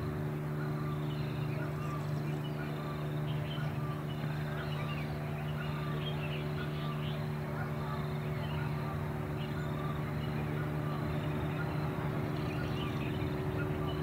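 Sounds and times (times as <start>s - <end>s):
steady low hum: 0.0s - 14.0s
bird chirps: 0.3s - 14.0s.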